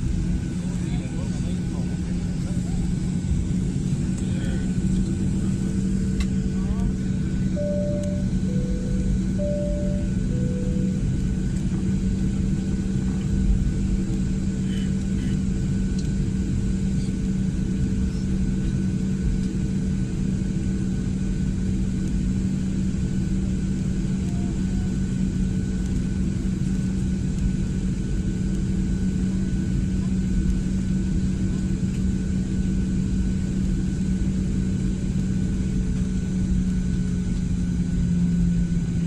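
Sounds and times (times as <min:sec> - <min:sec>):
jet engine hum in cabin: 0:00.0 - 0:39.0.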